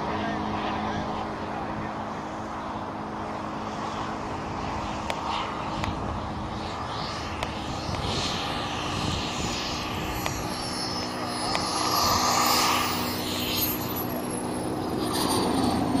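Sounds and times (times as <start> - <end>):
model jet turbine whine: 0.0 - 16.0.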